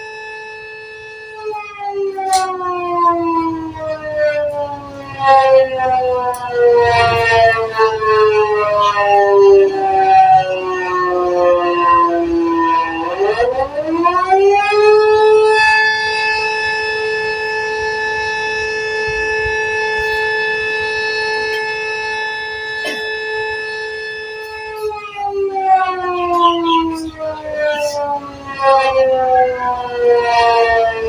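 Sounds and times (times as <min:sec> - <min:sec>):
warning siren wailing: 0:00.0 - 0:31.0.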